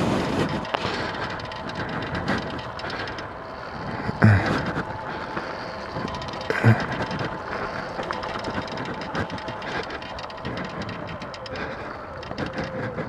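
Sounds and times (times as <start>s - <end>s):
dirt bike riding: 0.0s - 13.0s
running gear rattling: 0.0s - 13.0s.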